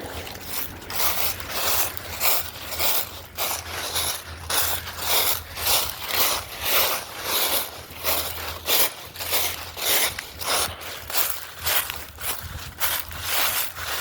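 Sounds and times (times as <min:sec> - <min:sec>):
brisk footsteps on pavement: 0:00.0 - 0:14.0.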